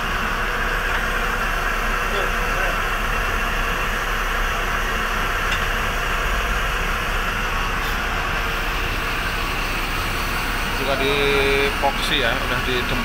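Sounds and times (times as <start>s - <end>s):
steady mechanical noise: 0.0s - 13.0s.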